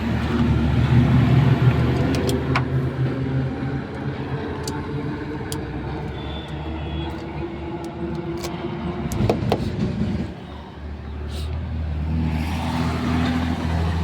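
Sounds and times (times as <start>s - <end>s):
highway traffic: 0.0s - 14.0s
vehicle engine approaching: 0.0s - 14.0s.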